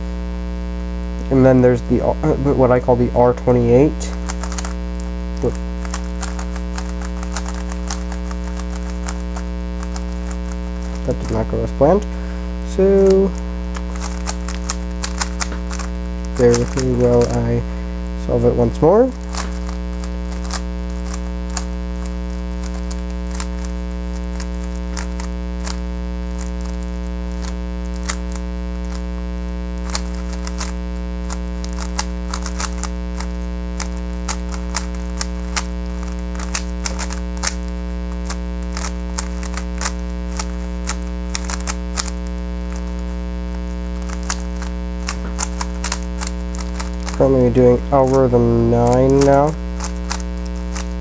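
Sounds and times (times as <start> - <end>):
steady electrical hum: 0.0 - 51.0
puzzle cube plastic clicks: 3.4 - 29.2, 29.8 - 51.0.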